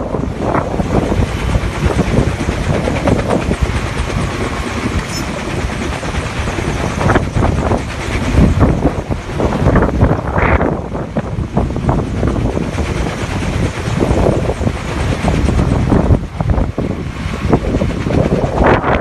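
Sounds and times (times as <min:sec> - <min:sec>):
downwash buffeting microphone: 0:00.0 - 0:19.0
helicopter hovering: 0:00.0 - 0:19.0.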